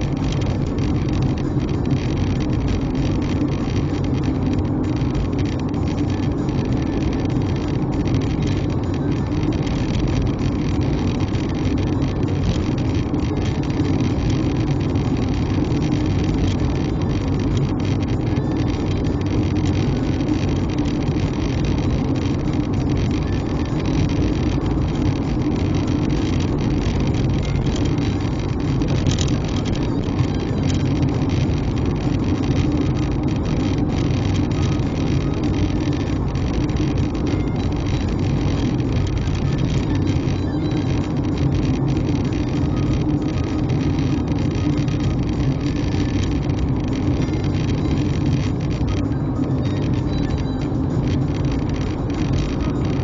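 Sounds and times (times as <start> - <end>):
car engine and tyre noise: 0.0 - 53.0.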